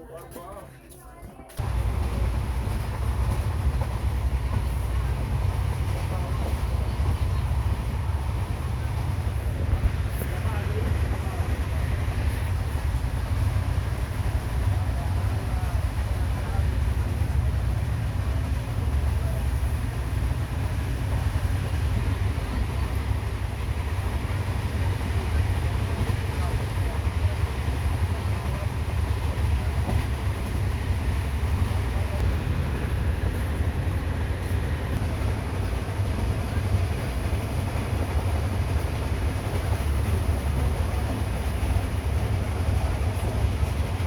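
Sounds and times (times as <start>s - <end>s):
passenger train rumbling: 1.0s - 44.0s.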